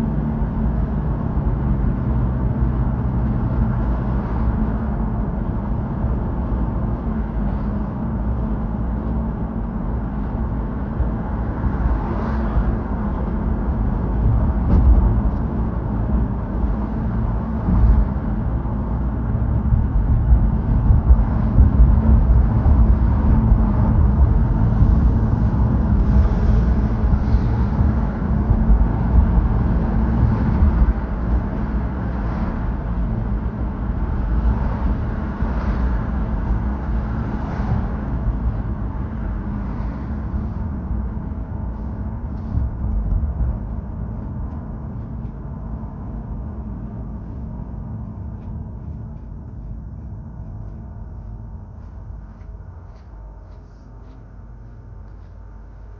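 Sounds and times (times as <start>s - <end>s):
vehicle road noise rumble: 0.0s - 55.9s.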